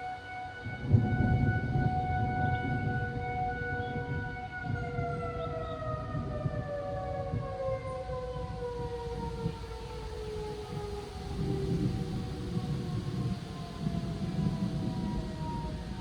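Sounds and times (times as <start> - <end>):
warning siren sliding down: 0.0 - 16.0.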